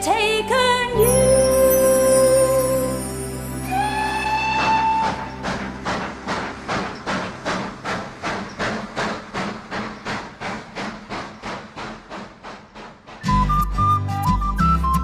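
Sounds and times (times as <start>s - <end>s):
steam locomotive chuffing: 1.0s - 15.0s.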